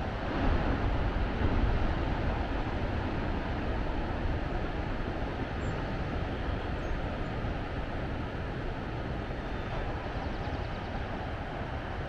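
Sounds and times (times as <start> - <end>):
wind rushing on microphone: 0.0 - 12.0.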